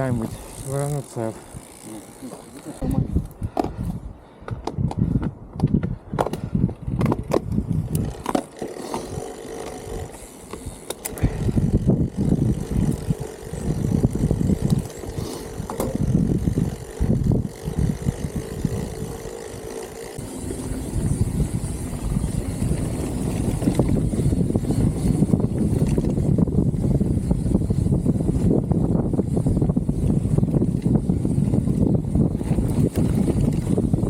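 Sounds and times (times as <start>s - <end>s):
wind buffeting microphone: 0.0s - 8.4s, 9.0s - 34.0s
bicycle clicks and rattles: 0.0s - 34.0s.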